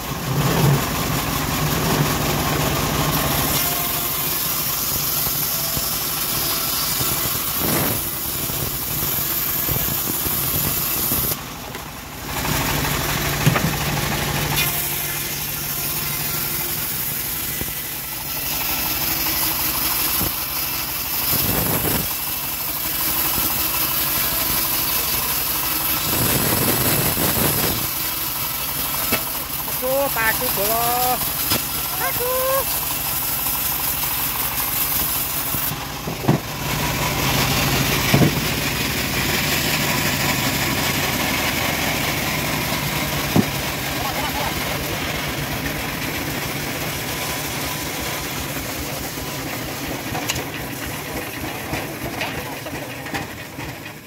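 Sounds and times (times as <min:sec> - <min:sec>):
bandsaw mill sawing wood: 0:00.0 - 0:54.0.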